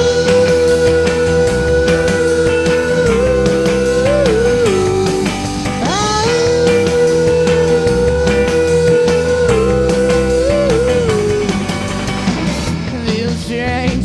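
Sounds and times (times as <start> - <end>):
electric guitar lead: 0.0 - 13.4
steady drum beat: 0.0 - 14.0.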